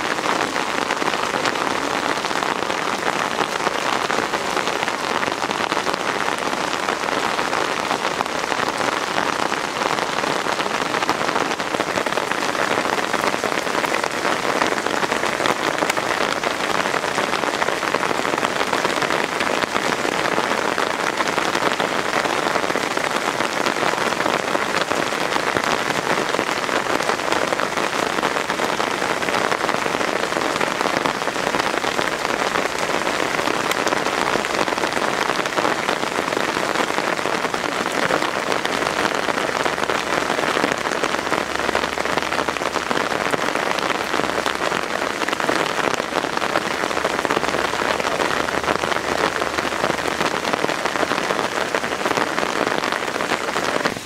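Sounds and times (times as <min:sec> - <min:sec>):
heavy rain pouring and splashing: 0:00.0 - 0:54.0.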